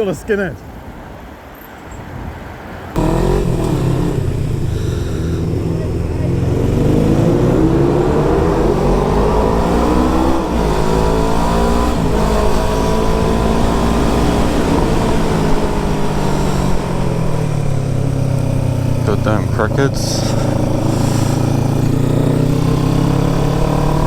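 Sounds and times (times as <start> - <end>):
gear change: 3.0 - 24.0
motorcycle engine accelerating: 3.0 - 24.0.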